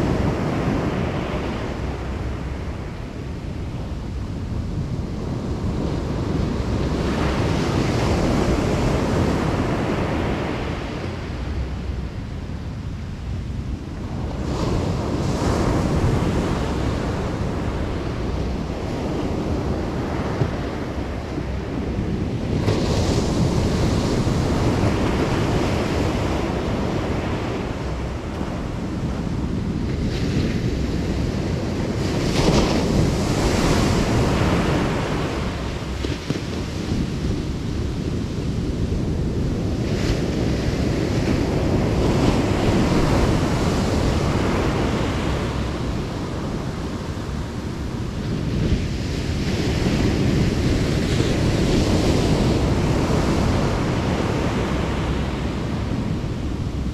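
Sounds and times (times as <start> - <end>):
ocean surf breaking: 0.0 - 56.9
wind rumbling on microphone: 0.0 - 56.9.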